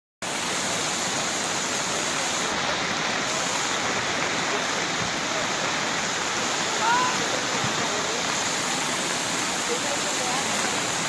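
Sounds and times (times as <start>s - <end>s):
floodwater rushing: 0.2s - 11.0s.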